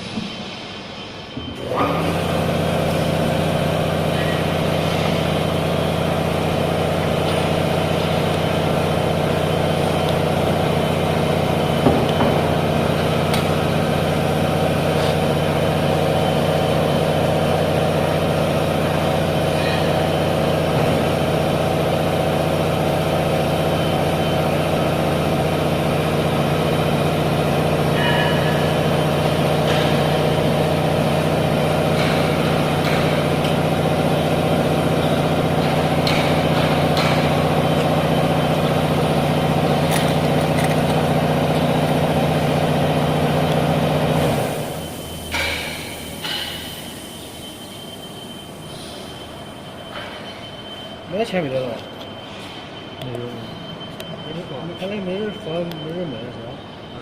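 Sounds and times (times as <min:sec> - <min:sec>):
machinery humming: 0:00.0 - 0:57.0.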